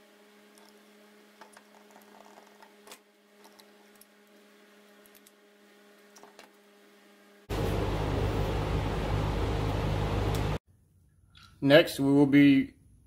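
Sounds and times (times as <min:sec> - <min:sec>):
low electrical hum: 0:00.0 - 0:11.6.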